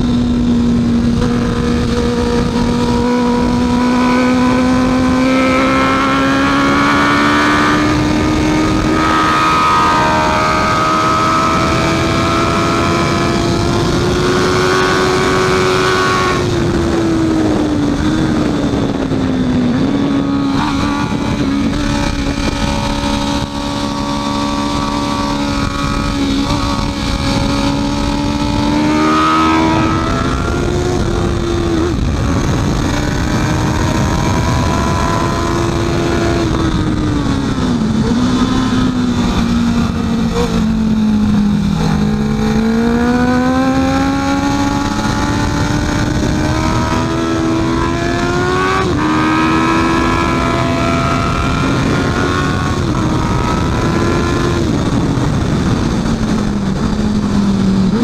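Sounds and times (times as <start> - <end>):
motorcycle engine racing: 0.0 - 58.0
steady rush of noise: 0.0 - 58.0.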